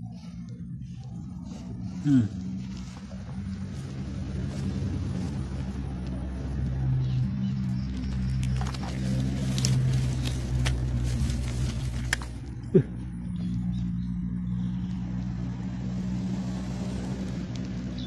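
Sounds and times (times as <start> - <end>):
low motor hum: 0.0 - 18.0.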